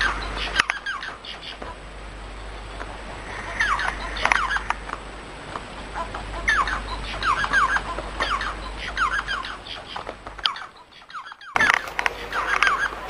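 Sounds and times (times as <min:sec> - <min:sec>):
finch singing: 0:00.0 - 0:13.0.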